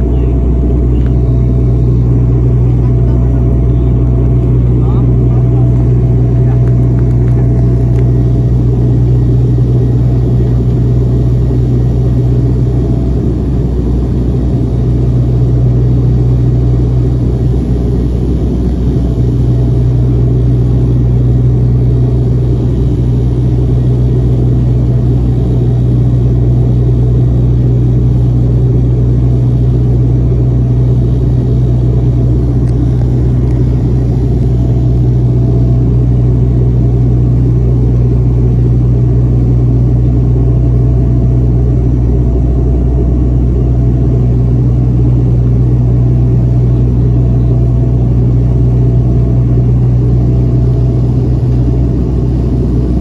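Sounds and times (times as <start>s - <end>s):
turboprop engines droning: 0.0s - 53.0s.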